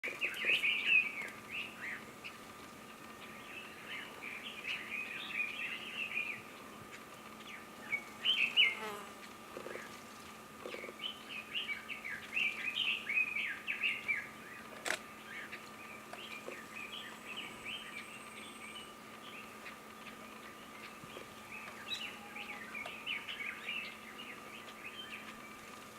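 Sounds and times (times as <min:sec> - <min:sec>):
bird warbling song: 0:00.0 - 0:25.9.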